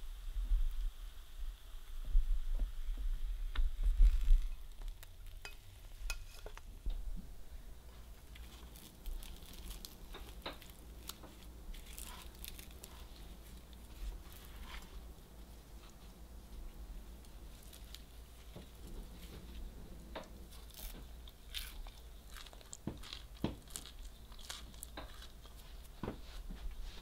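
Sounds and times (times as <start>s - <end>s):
crispy pancake crackling: 3.7s - 6.7s, 7.9s - 26.5s.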